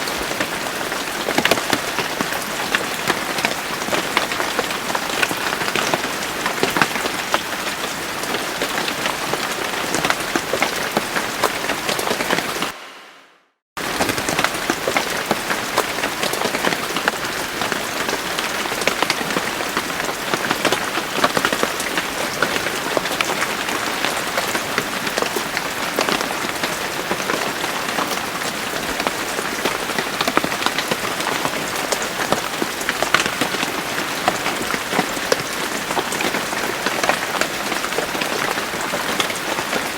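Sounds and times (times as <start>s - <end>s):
steady rain falling: 0.0s - 12.8s, 13.8s - 39.9s.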